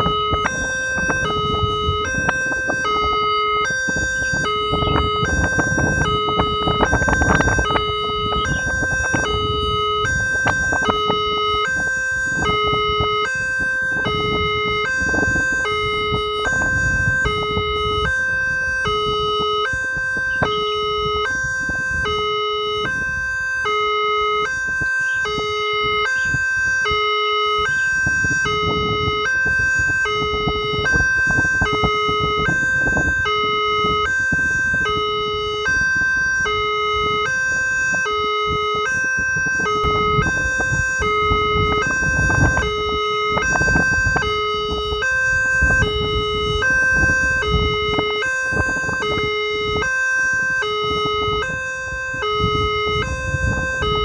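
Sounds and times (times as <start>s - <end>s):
two-tone electronic warning siren: 0.0s - 54.0s.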